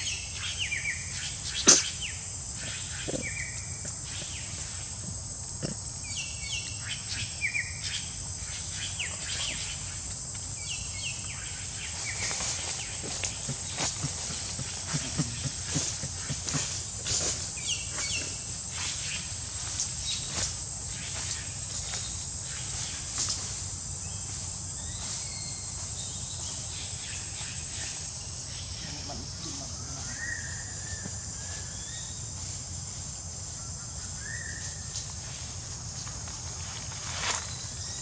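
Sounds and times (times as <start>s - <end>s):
insects droning: 0.0s - 38.0s.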